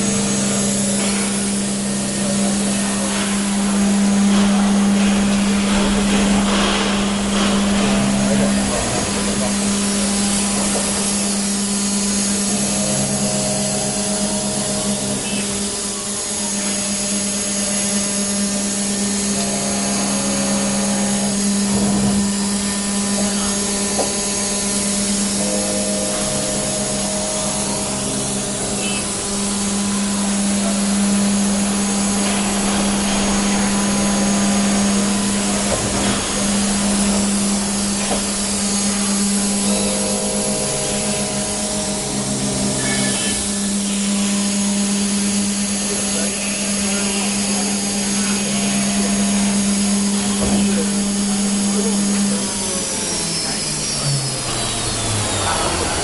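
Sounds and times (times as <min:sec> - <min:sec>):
cnc spindle humming and hissing: 0:00.0 - 0:56.0
machine movement tones: 0:00.0 - 0:56.0.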